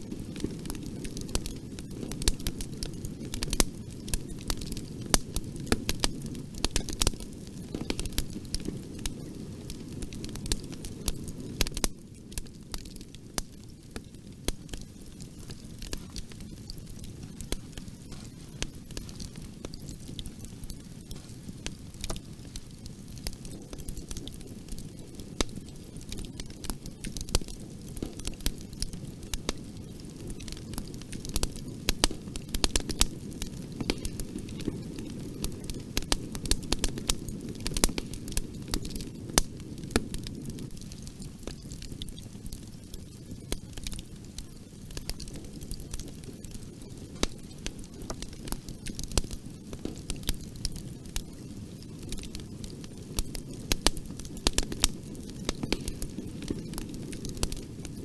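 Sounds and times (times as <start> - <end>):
fire pops and snaps: 0.0 - 58.0
wood fire crackling: 0.0 - 58.0.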